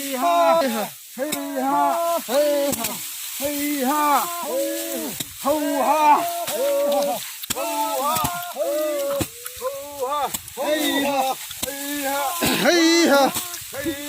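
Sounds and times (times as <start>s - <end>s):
faint crackling hiss: 0.0s - 14.0s.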